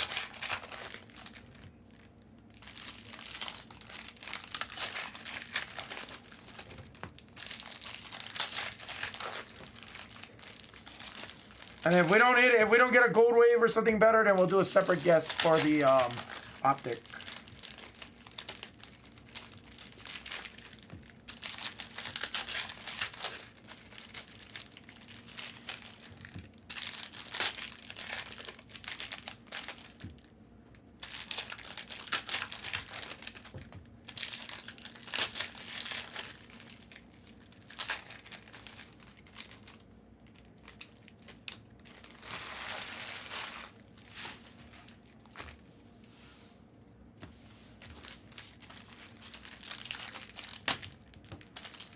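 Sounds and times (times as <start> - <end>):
plastic wrappers crinkling and tearing: 0.0 - 45.6, 47.7 - 51.9.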